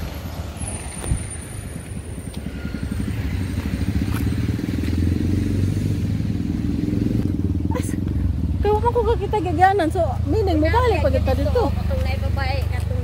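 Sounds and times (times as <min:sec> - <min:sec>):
vehicle engine running: 0:01.6 - 0:13.0.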